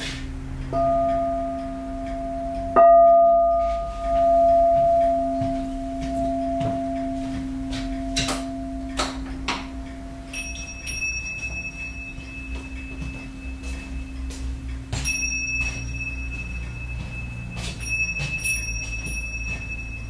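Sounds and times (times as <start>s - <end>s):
metal ornament struck and ringing: 0.6s - 20.0s.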